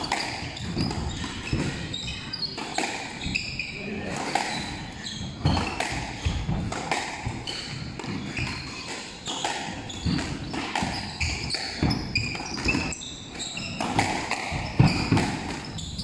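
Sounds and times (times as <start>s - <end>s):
squash ball hits: 0.0s - 3.4s, 5.3s - 12.9s, 13.6s - 16.0s
shoes squeaking on wooden floor: 0.0s - 16.0s.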